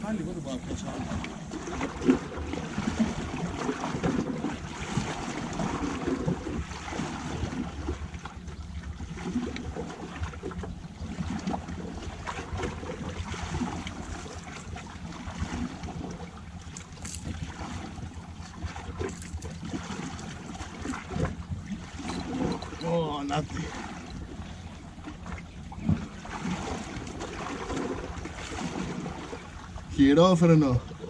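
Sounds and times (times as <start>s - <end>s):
water lapping against rocks: 0.0s - 31.0s.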